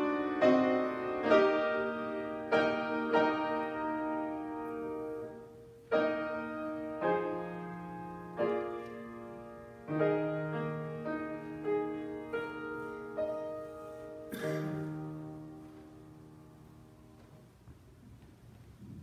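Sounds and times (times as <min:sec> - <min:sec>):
piano playing slow chords: 0:00.0 - 0:17.6.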